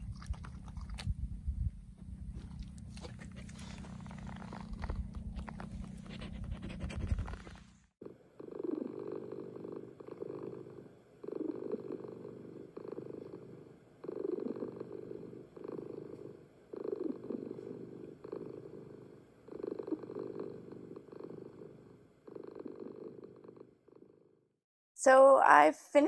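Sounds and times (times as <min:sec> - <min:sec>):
cat purring: 0:00.0 - 0:24.6.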